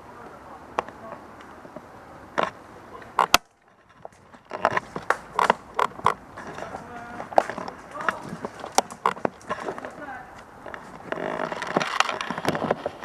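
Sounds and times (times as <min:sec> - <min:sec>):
sharp clicks and cracks: 0:00.7 - 0:13.0.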